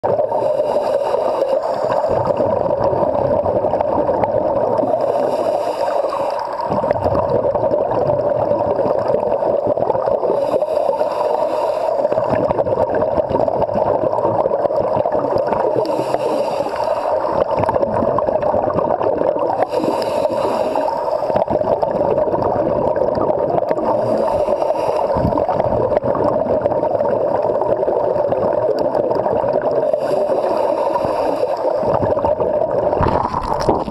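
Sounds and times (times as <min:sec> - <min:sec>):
exhaled bubbles gurgling: 0:00.0 - 0:33.9
muffled underwater rush: 0:00.0 - 0:33.9.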